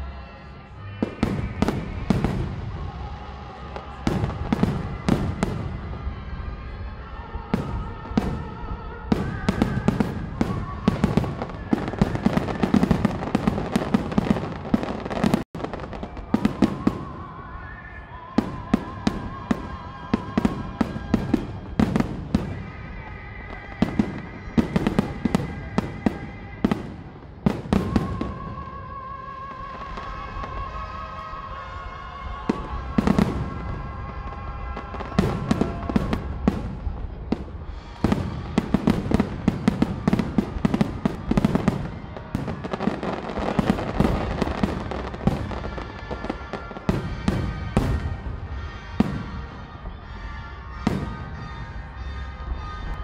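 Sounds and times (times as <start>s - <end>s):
music playing: 0.0s - 53.0s.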